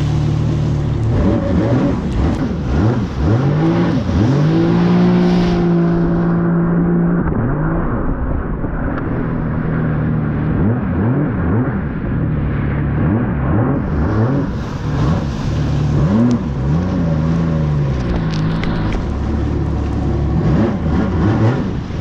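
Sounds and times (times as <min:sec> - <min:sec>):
jet ski engine revving: 0:00.0 - 0:22.0
water noise: 0:00.0 - 0:22.0
wind noise: 0:00.0 - 0:22.0.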